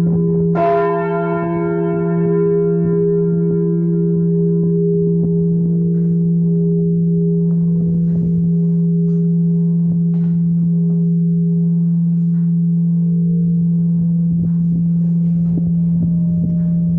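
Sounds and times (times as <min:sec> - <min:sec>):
church bells ringing: 0:00.0 - 0:16.9.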